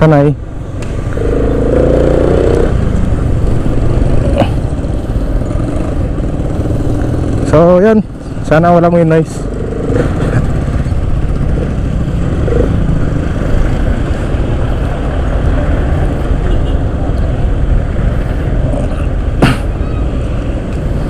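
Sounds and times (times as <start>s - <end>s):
motorcycle engine and road rumble: 0.0s - 21.0s.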